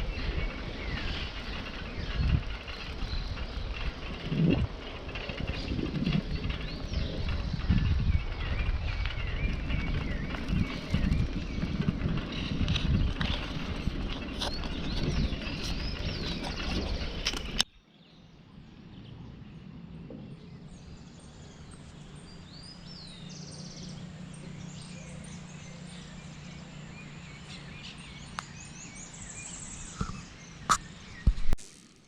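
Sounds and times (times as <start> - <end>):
small birds chirping: 0.0 - 31.6.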